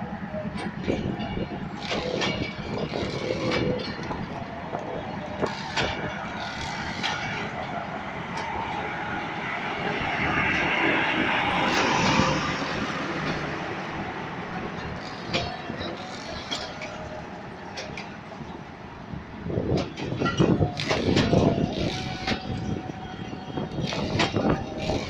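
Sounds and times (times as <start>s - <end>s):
wheels clacking over rail joints: 0.0s - 9.2s, 9.8s - 18.8s, 19.4s - 25.0s
train wheels rumbling on rails: 0.0s - 25.0s.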